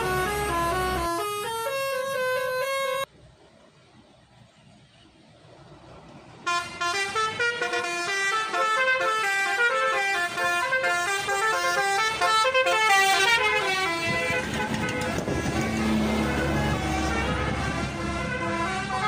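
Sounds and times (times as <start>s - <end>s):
bus horn playing melody: 0.0s - 3.1s, 6.4s - 19.0s.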